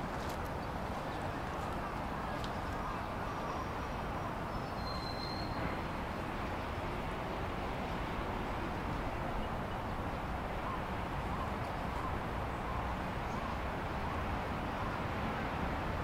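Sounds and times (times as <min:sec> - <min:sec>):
distant city traffic hum: 0:00.0 - 0:16.0.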